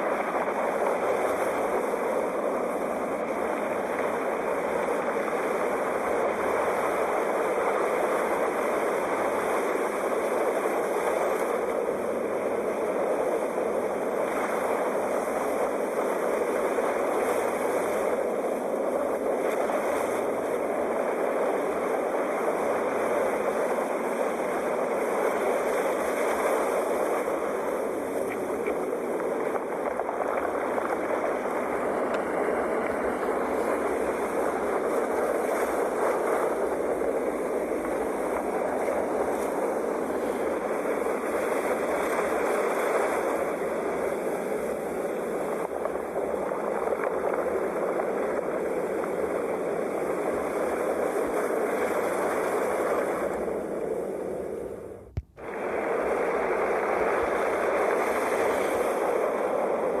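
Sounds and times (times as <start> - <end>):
sea waves washing: 0.0 - 60.0.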